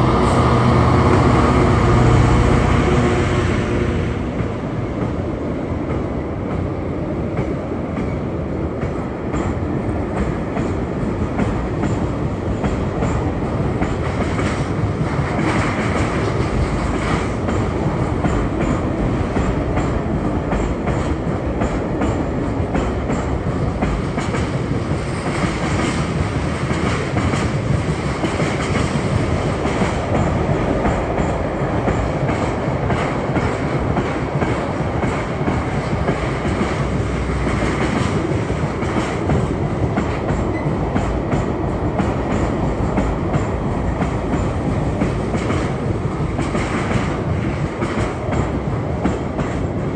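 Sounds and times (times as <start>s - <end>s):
freight train wheels clattering: 0.0s - 49.9s.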